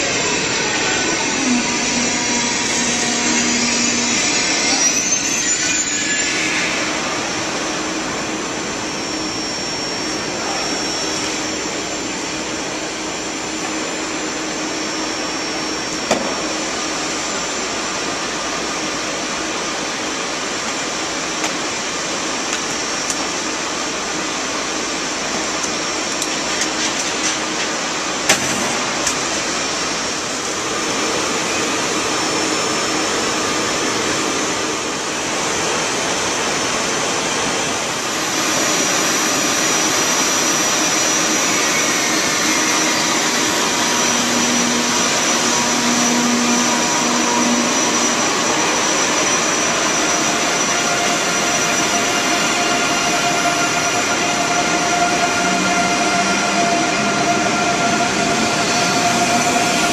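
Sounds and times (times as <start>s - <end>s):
train cooling fans whooshing: 0.0s - 59.9s.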